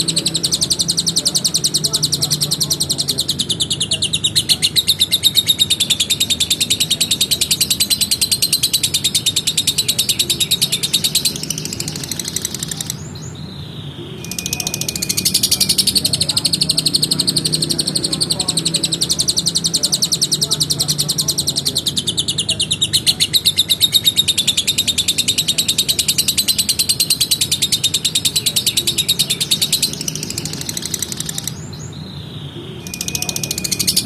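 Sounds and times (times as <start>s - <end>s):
lovebird chattering trill: 0.0s - 34.0s.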